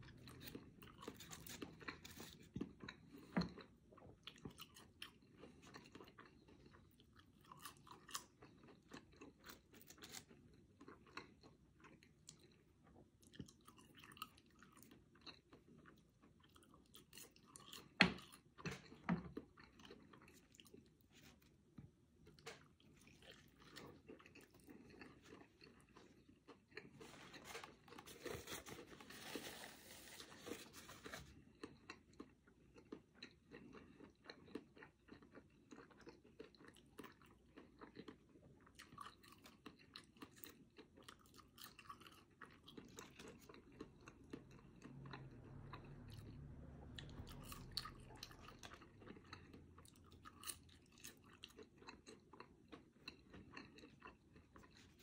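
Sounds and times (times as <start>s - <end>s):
close-up chewing and crunching: 0.0s - 55.0s.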